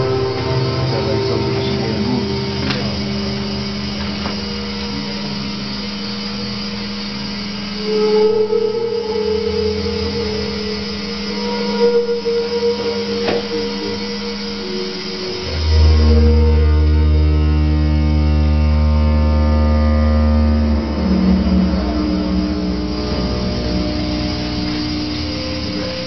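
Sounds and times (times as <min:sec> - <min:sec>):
modular synthesizer drone: 0:00.0 - 0:26.0.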